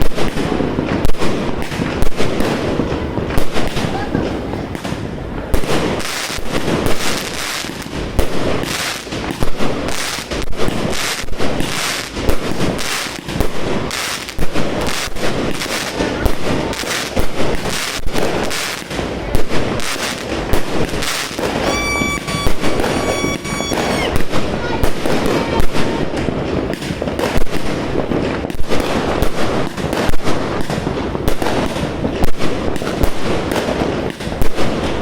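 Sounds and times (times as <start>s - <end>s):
fireworks and firecrackers banging: 0.0s - 35.0s.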